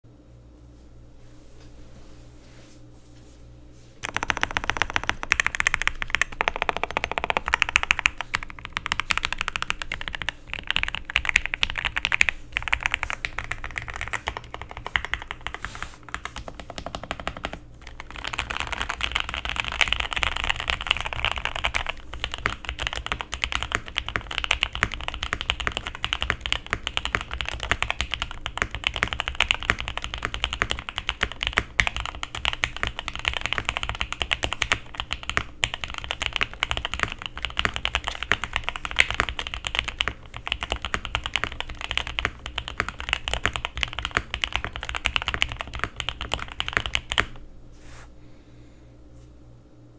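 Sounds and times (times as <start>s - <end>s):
fast mechanical keyboard typing: 4.0s - 47.4s.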